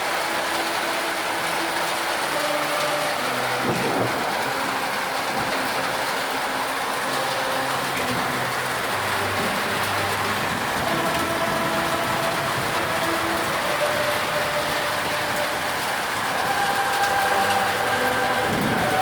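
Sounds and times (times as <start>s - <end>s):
heavy rain downpour: 0.0s - 19.0s.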